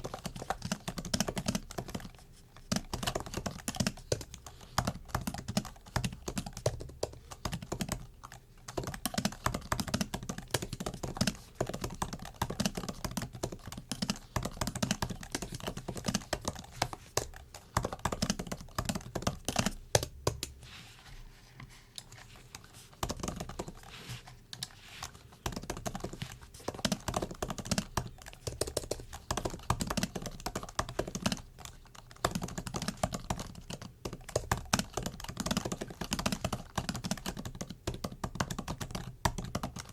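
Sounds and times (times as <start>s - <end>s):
laptop keyboard typing: 0.0s - 20.6s, 22.4s - 39.9s.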